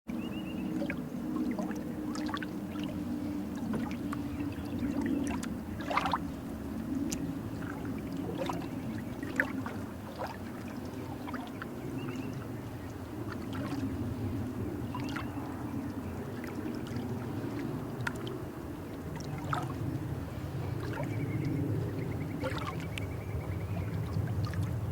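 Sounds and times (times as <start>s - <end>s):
water gurgles and splashes: 0.2s - 24.9s.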